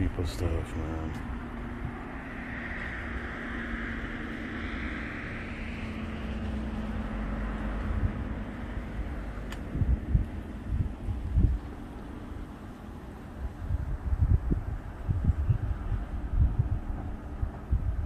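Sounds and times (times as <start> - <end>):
passing traffic: 0.0 - 18.0
steady low hum: 0.0 - 18.0.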